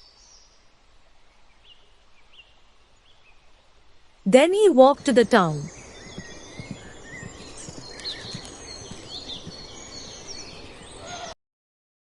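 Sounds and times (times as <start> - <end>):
steady background hiss: 0.0 - 11.3
birds chirping: 0.0 - 11.4.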